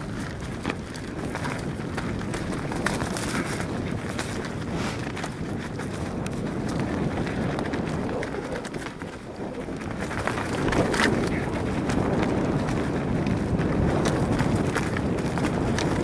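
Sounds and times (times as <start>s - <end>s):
bike frame rattling and clicking: 0.0s - 16.0s
bike tyres crunching over dirt: 0.0s - 16.0s.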